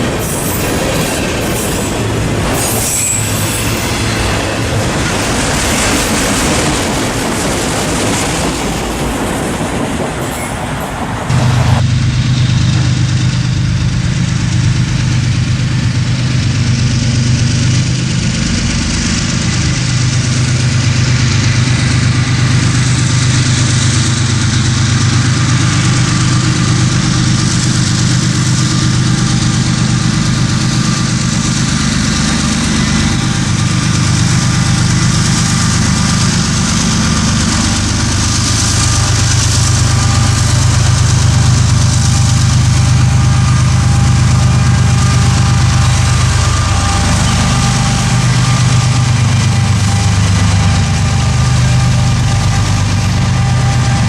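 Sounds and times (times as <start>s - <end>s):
locomotive engine humming: 0.0s - 54.0s.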